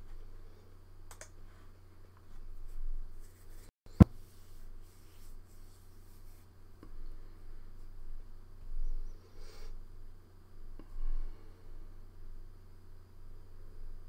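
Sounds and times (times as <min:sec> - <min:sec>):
faint small noises: 0:00.0 - 0:14.0
steady low hum: 0:00.0 - 0:14.0.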